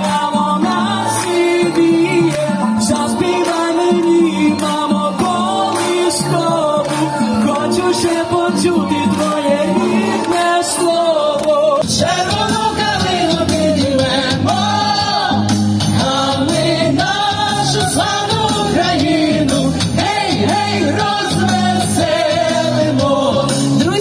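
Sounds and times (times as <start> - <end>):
group of people singing: 0.0 - 24.0
instrumental backing with bass: 0.0 - 24.0.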